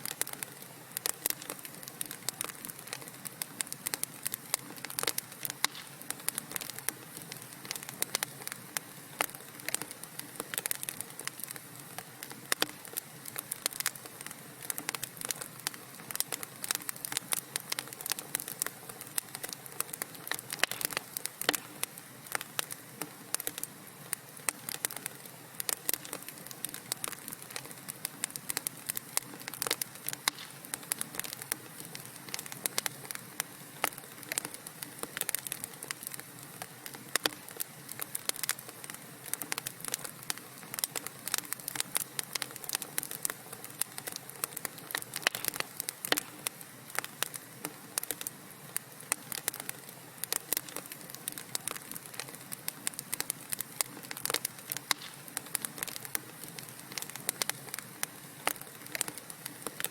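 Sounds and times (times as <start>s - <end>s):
soft steady hiss: 0.0s - 59.9s
wood fire crackling: 0.0s - 59.9s.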